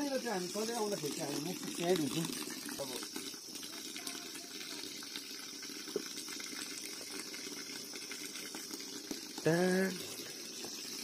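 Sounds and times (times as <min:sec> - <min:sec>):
water pouring onto rock: 0:00.0 - 0:11.0.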